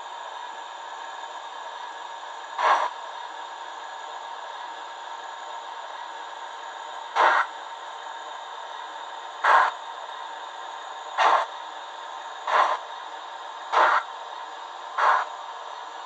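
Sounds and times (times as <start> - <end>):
steam puffs from small speaker: 1.5 - 16.0.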